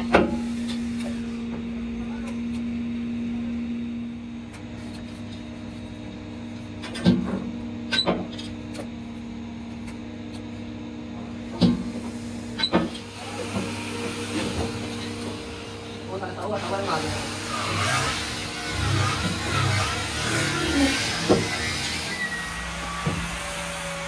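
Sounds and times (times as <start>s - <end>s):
welder electrical hum: 0.0s - 24.0s.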